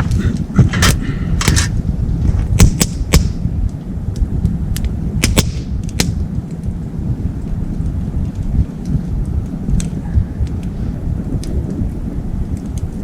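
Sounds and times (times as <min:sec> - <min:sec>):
steady low rumble: 0:00.0 - 0:13.0
wood fire crackling and popping: 0:00.0 - 0:13.0.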